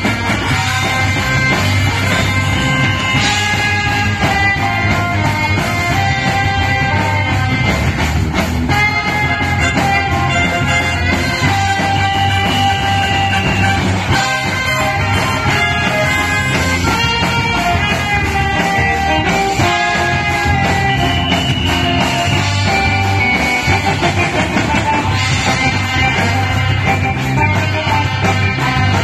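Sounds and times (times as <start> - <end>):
brass horn melody: 0.0 - 29.0
guitar accompaniment: 0.0 - 29.0
pulsing bass: 0.0 - 29.0.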